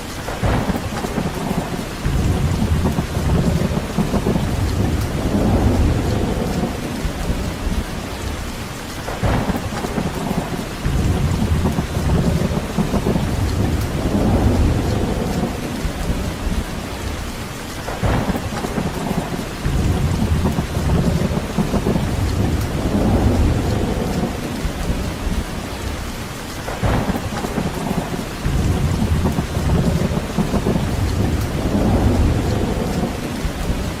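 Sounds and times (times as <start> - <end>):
steady rain: 0.0 - 34.0
deep rumbling: 0.3 - 34.0.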